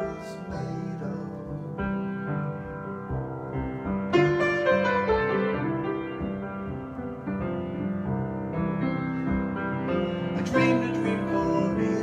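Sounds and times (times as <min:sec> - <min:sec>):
solo piano chords and melody: 0:00.0 - 0:12.0.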